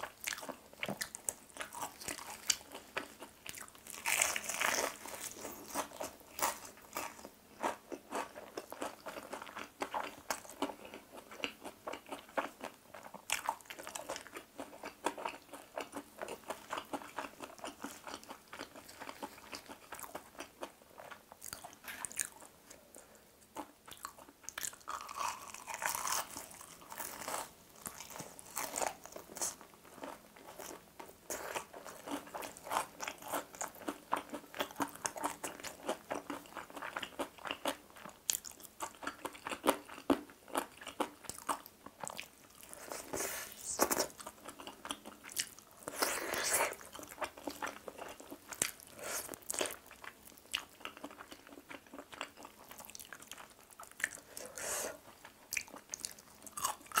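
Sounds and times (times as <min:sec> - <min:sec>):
crunching and chewing fried chicken: 0:00.0 - 0:57.0.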